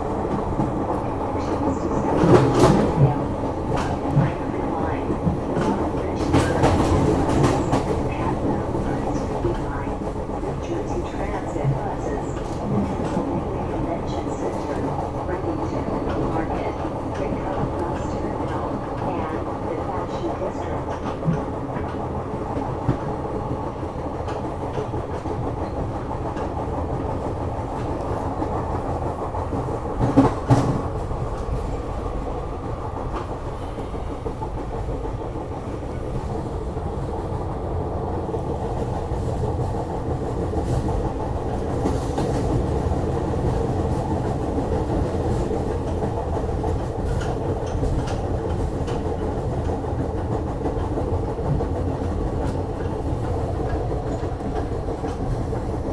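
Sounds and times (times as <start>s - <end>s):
train wheels rumbling on track: 0.0s - 55.9s.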